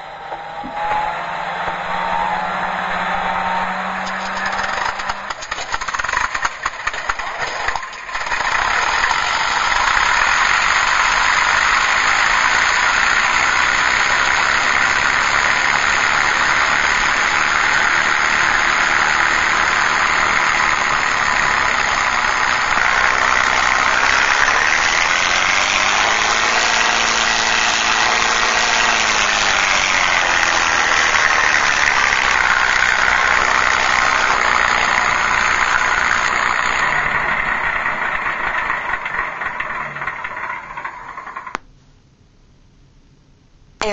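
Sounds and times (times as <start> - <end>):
recorded airplane engine sound: 0.0 - 41.6.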